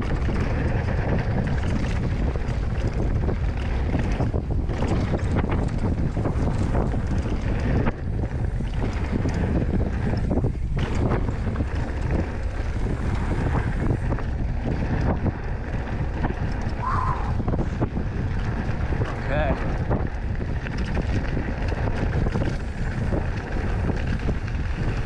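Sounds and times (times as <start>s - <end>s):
bike clicks and rattles: 0.0s - 25.0s
tyres rumbling on dirt and rock: 0.0s - 25.0s
wind buffeting microphone: 0.0s - 25.0s.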